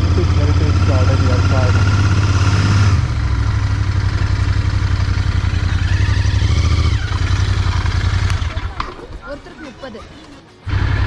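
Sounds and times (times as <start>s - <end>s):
motorcycle engine running at low revs: 0.0s - 8.8s, 10.7s - 11.0s.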